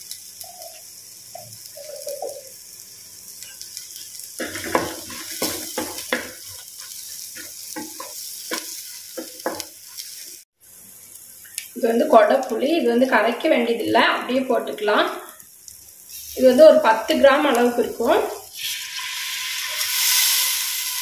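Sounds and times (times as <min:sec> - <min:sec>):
paste sizzling in oil: 0:00.0 - 0:21.0.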